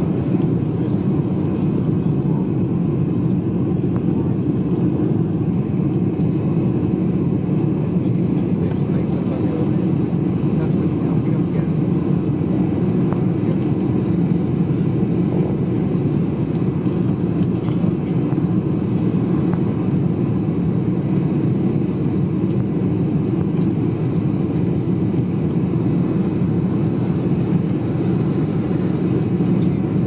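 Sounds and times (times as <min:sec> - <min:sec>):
airplane engines rumbling: 0:00.0 - 0:30.0.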